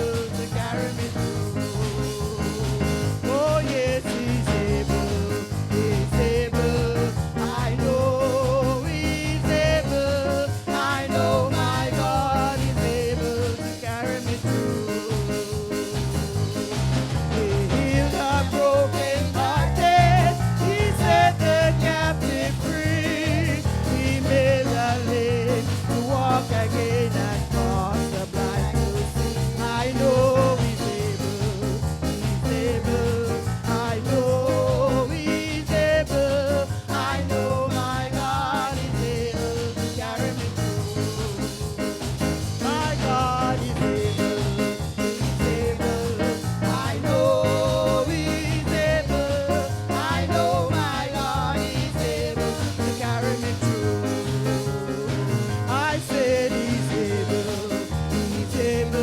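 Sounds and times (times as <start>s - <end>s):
song with singing and beat: 0.0s - 59.0s.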